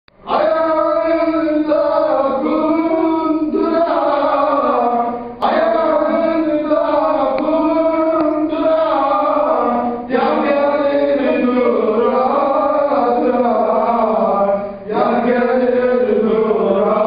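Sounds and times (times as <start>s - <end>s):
man singing unaccompanied: 0.1s - 17.0s.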